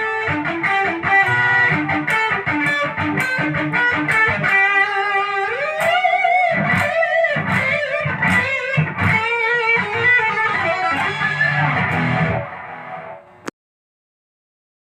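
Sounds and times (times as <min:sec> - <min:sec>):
electric guitar picked notes: 0:00.0 - 0:13.5.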